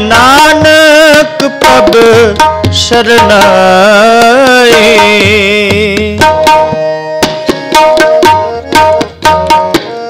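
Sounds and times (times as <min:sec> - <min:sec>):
harmonium melody: 0:00.0 - 0:10.0
tabla strokes: 0:00.0 - 0:10.0.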